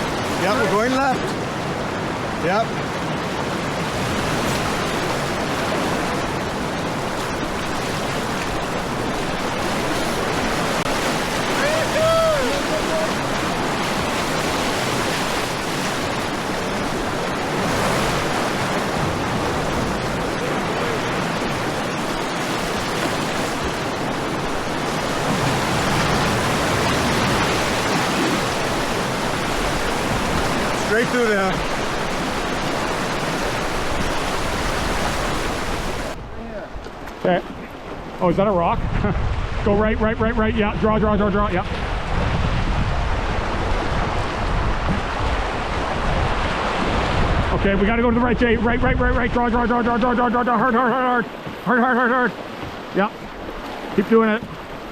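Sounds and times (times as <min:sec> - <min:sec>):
whitewater rapids rushing: 0:00.0 - 0:36.2, 0:40.3 - 0:54.9.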